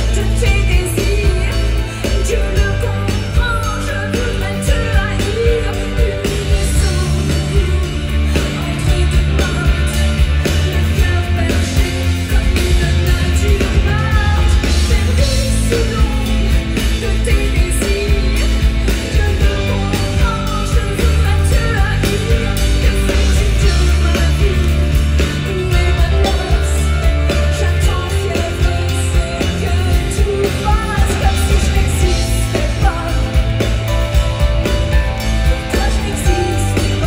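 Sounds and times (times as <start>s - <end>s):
drums: 0.0s - 37.0s
electric bass: 0.0s - 37.0s
woman singing: 0.0s - 37.0s.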